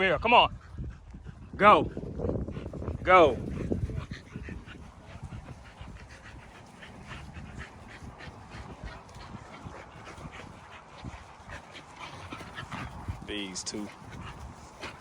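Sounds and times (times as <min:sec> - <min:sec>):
faint panting: 0:00.5 - 0:15.0
puppies scuffling rustles: 0:02.4 - 0:15.0.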